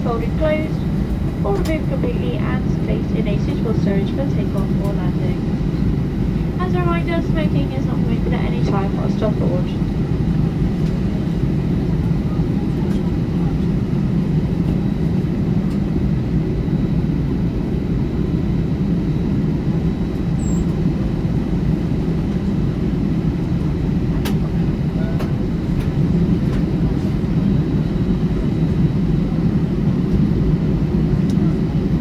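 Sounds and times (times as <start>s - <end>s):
turboprop engine drone: 0.0s - 32.0s.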